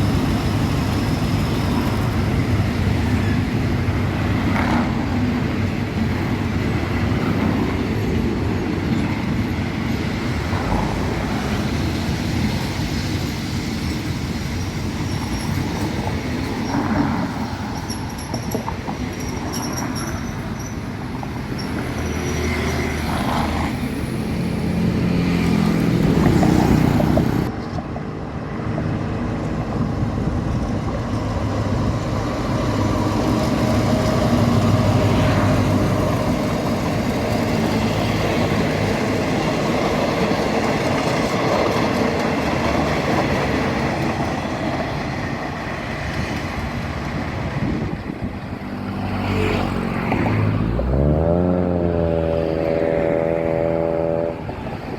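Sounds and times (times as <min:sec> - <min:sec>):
diesel locomotive engine droning: 0:00.0 - 0:49.0, 0:49.6 - 0:54.9
rail noise: 0:00.0 - 0:54.9.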